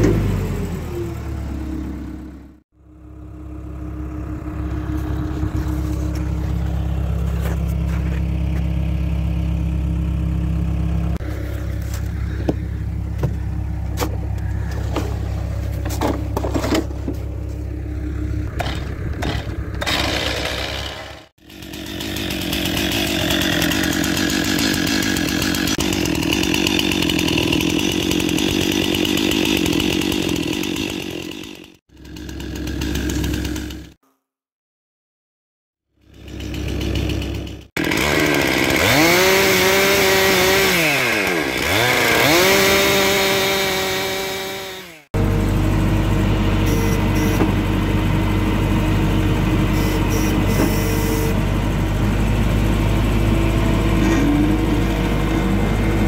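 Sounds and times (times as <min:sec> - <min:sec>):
chainsaw engine idling and revving: 0:00.0 - 0:34.0, 0:36.0 - 0:56.0.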